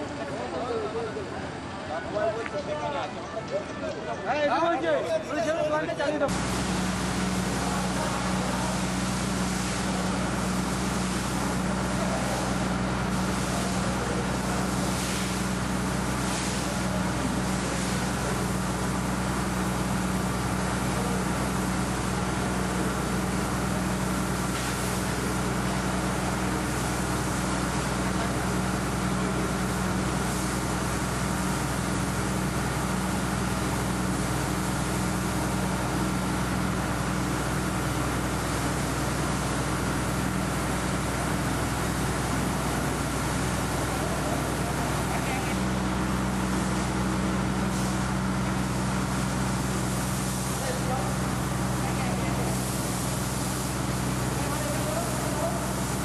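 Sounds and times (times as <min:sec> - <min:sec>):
fire hose spraying water: 0:06.3 - 0:56.0
low engine drone: 0:06.3 - 0:56.0.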